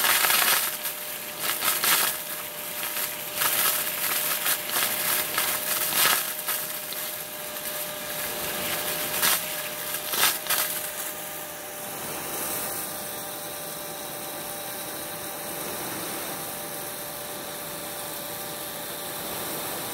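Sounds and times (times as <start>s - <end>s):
sprinkler water jet hissing: 0.0s - 19.6s.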